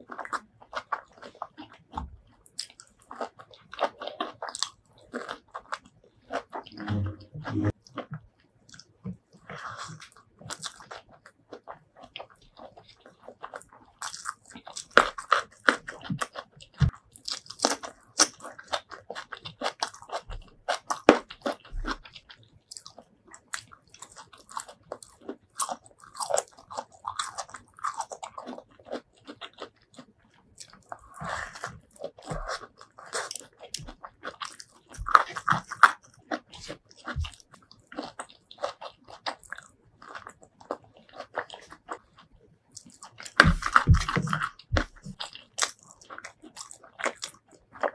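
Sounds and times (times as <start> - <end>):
chewing raw vegetables: 0.0 - 47.9.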